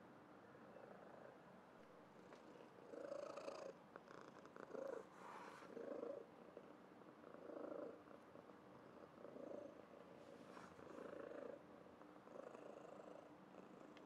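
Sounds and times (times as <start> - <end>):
cat purring softly: 0.6 - 1.4, 2.2 - 14.0.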